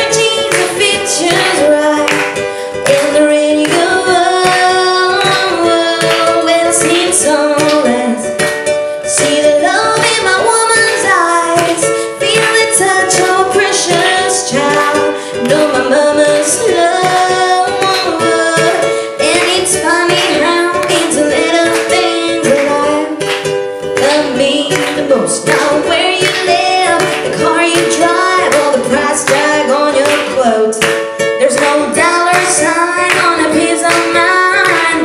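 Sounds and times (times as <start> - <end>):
strummed acoustic string instrument: 0.0 - 35.0
woman singing: 0.0 - 35.0.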